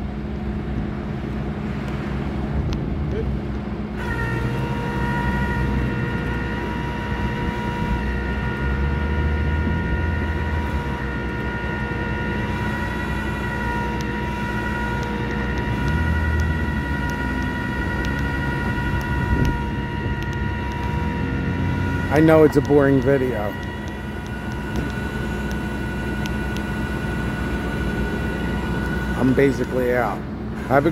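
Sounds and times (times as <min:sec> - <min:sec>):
truck engine under load whining: 0:00.0 - 0:30.9.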